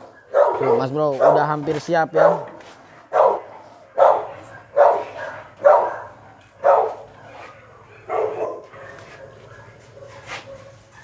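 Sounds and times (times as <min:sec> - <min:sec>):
dog barking: 0:00.3 - 0:11.0.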